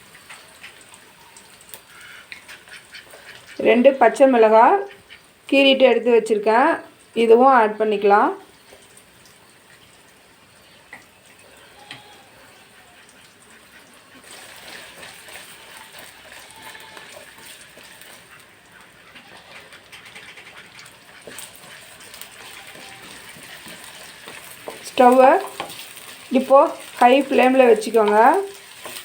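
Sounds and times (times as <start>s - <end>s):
onions sizzling in oil: 0.0s - 19.4s, 20.8s - 29.0s.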